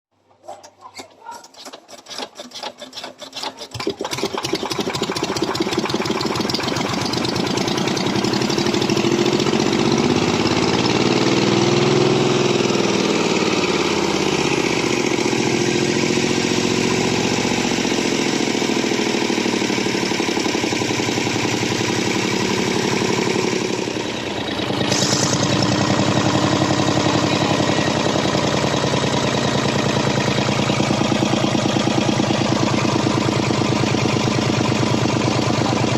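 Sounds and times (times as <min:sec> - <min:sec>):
diesel engine starting and running: 0:00.2 - 0:35.9.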